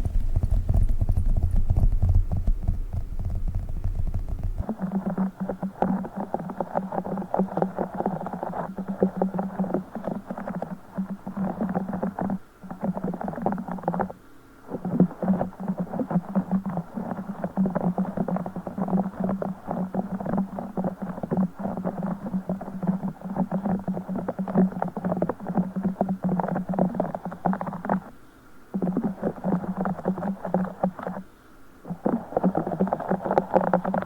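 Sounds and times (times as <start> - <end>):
gel beads squelching: 4.6 - 28.1, 28.8 - 31.2, 31.9 - 34.0.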